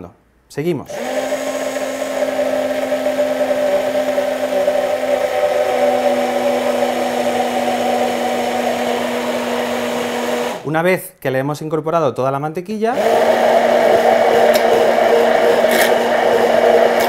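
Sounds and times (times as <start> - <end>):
immersion blender motor hum: 0.9 - 10.7, 12.9 - 17.0.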